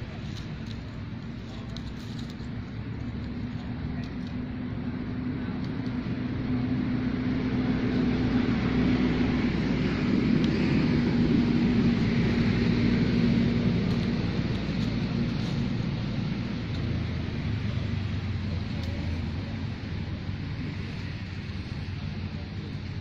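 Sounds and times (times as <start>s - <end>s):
motor engine humming: 0.0s - 23.0s.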